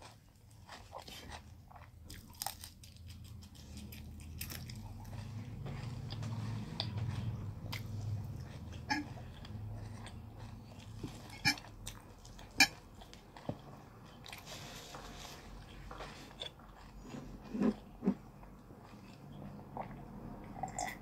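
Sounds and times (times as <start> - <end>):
person chewing with wet smacks: 0.0 - 15.0, 15.6 - 21.0.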